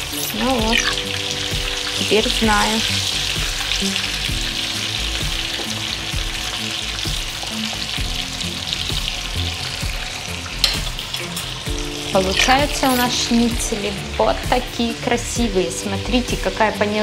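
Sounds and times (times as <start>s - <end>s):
schnitzel sizzling in oil: 0.0s - 17.0s.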